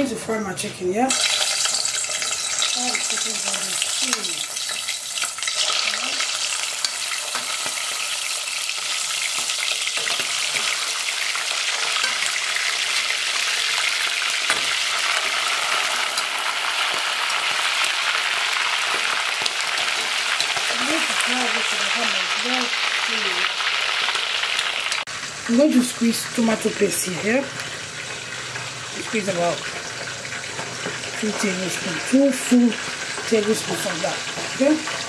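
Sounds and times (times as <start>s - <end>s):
chicken frying in hot oil: 1.1s - 35.0s.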